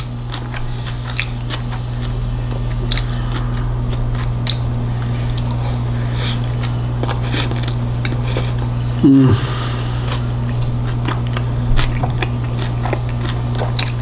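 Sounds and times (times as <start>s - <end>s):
person chewing food: 0.0s - 14.0s
steady low hum: 0.0s - 14.0s.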